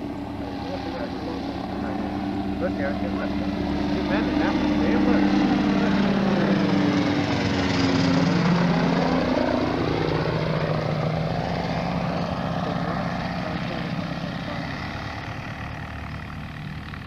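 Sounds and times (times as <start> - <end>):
propeller aircraft flying past: 0.0 - 17.0.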